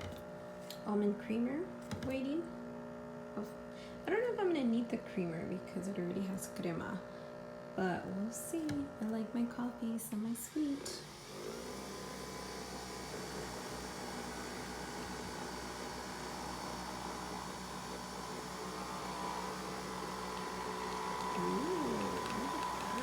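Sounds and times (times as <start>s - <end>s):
coffee machine motor hum: 0.0s - 23.0s.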